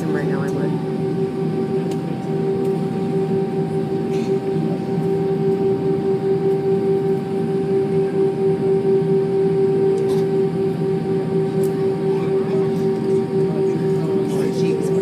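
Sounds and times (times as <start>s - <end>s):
jet engine cabin hum: 0.0s - 15.0s.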